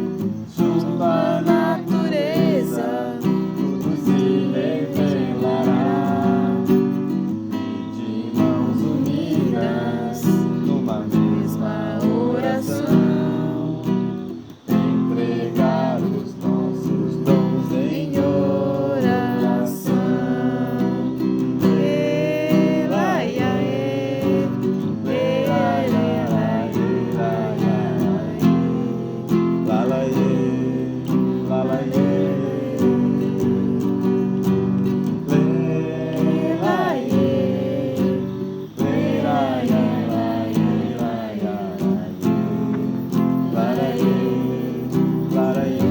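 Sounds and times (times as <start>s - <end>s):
acoustic guitar strumming: 0.0s - 45.9s
person singing: 0.0s - 45.9s.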